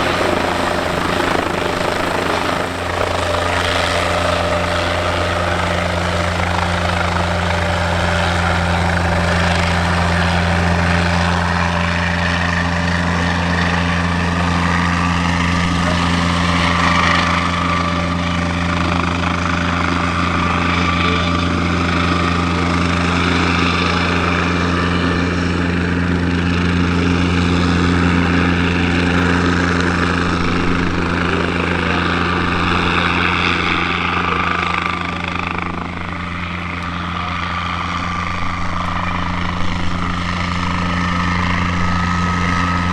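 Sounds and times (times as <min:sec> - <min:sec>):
helicopter running: 0:00.0 - 0:42.9.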